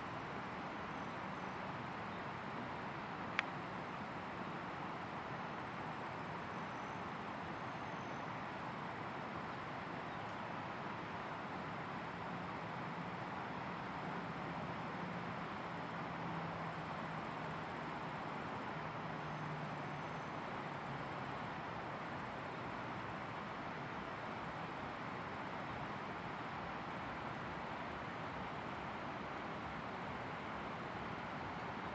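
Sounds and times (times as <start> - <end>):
outdoor background hiss: 0.0 - 31.9.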